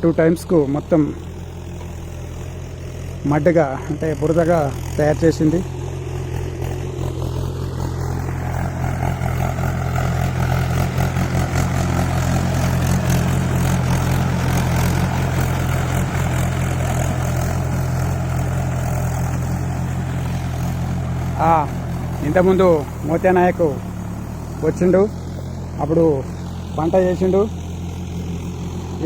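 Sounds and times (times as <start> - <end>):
tractor engine under load: 0.0 - 29.0.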